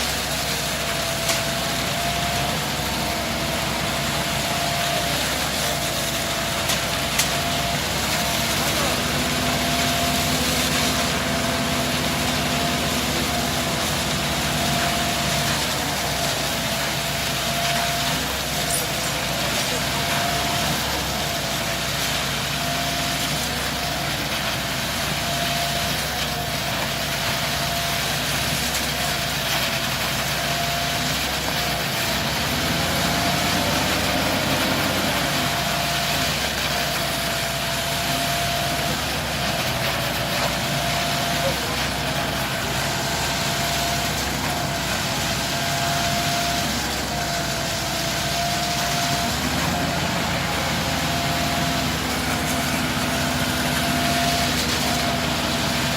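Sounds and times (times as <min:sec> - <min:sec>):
steady whine: 0:00.0 - 0:25.7, 0:31.7 - 0:55.9
engine running: 0:00.0 - 0:55.9.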